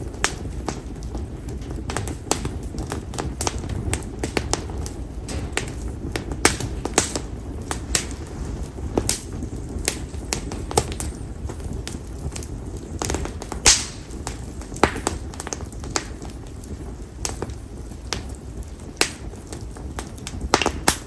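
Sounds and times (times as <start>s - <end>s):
firewood crackling and popping: 0.0s - 21.0s
low rumble of flame: 0.0s - 21.0s.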